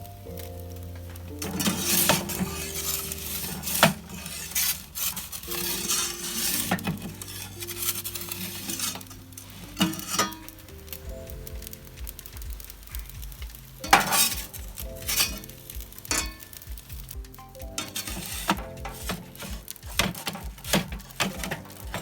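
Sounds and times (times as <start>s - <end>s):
faint background music: 0.0s - 22.0s
scraping and rustling: 0.0s - 22.0s.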